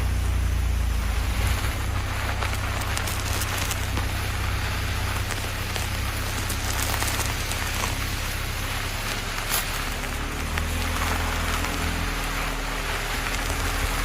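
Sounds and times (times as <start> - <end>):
car rumbling on dirt road: 0.0 - 14.0
stones crackling under tyres: 0.0 - 14.0.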